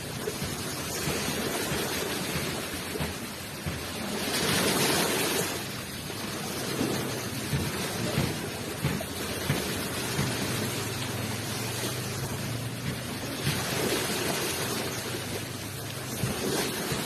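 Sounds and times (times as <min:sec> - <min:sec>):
ocean waves rushing onto shore: 0:00.0 - 0:17.0.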